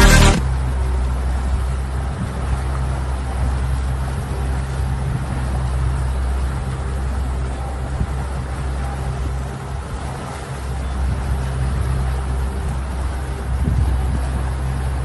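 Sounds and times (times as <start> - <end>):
outboard motor drone: 0.0 - 15.0
rush of boat wake: 0.0 - 15.0
wind: 0.0 - 15.0.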